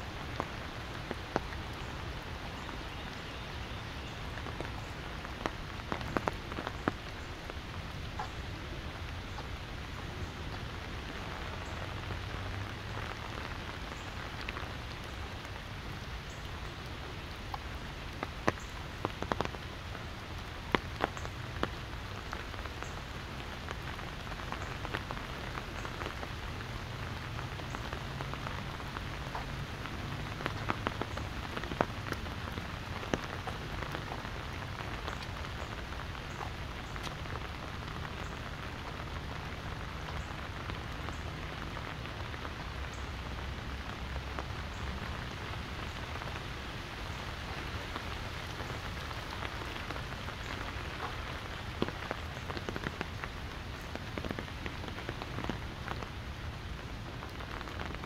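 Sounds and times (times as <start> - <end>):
raindrops tapping on umbrella: 0.0 - 58.0
steady rain: 0.0 - 58.0.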